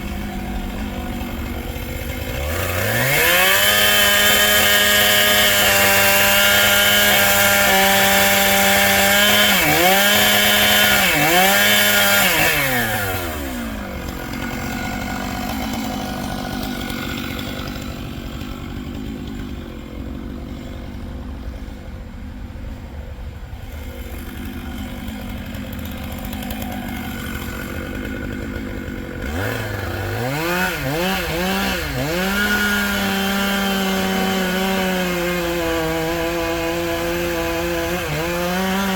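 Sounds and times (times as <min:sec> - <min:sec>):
chainsaw throttle blips: 0:00.0 - 0:21.0, 0:23.7 - 0:38.9
chainsaw cutting wood: 0:00.0 - 0:38.9
chainsaw idling: 0:00.0 - 0:38.9.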